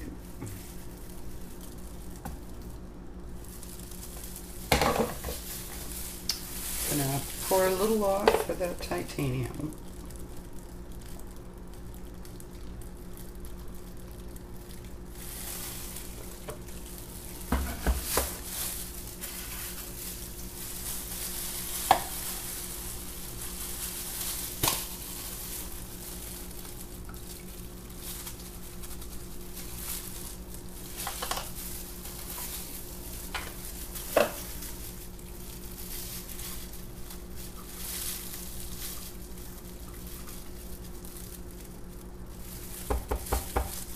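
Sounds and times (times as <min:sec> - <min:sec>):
low electrical hum: 0:00.0 - 0:43.9
soft rustling: 0:00.2 - 0:08.7, 0:14.6 - 0:42.9.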